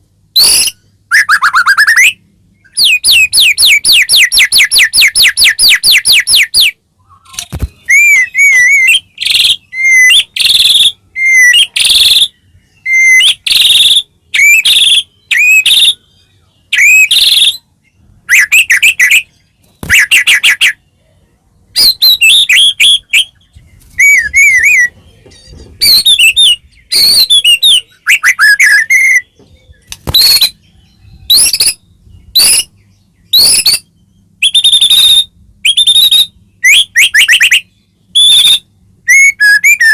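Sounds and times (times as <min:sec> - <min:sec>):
songbird whistling phrases: 0:00.4 - 0:17.7, 0:18.3 - 0:20.9, 0:21.7 - 0:39.9.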